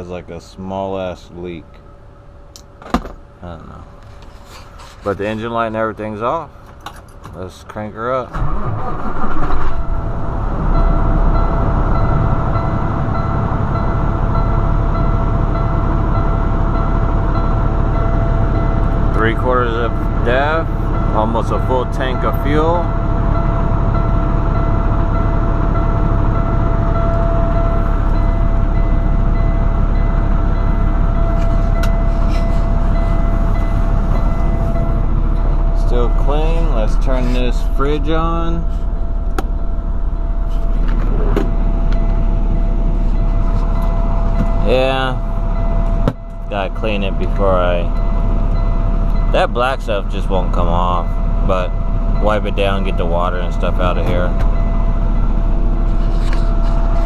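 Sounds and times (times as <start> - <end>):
diesel engine starting and idling: 0.0 - 57.0
high-pitched warning tone: 9.8 - 57.0.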